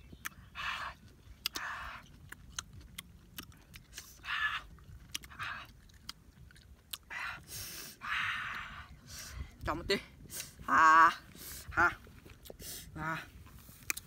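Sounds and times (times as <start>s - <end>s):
person chewing crunchy fruit: 0.0s - 8.6s, 11.3s - 14.0s
breathy mouth noises: 0.1s - 10.6s, 11.3s - 14.0s.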